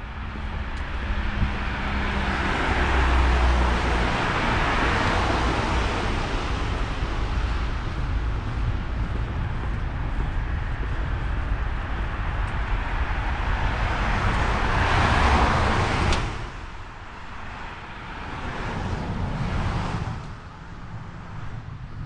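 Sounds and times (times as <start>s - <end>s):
car passing on snowy street: 0.0s - 22.0s
quieter vehicle passing: 0.0s - 22.0s.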